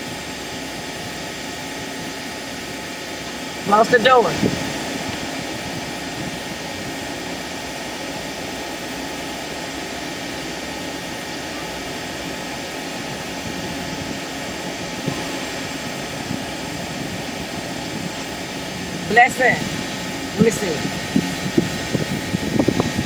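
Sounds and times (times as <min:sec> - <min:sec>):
whooshing machine noise: 0:00.0 - 0:23.0.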